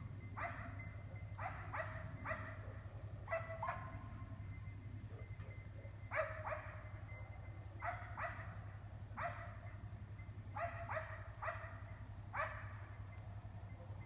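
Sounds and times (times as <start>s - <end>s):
distant dog barking: 0.4s - 9.8s, 10.5s - 13.0s.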